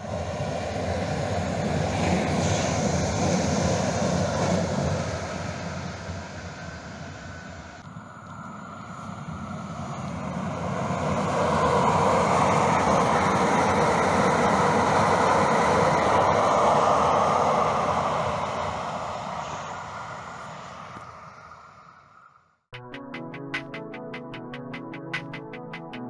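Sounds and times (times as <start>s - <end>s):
light rail train rumbling on tracks: 0.0s - 21.3s.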